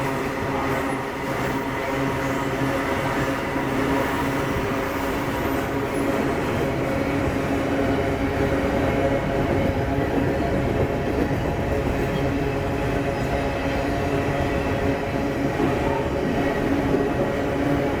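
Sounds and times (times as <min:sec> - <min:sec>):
diesel locomotive engine drone: 0:00.0 - 0:18.0
train rumbling on rails: 0:00.0 - 0:18.0.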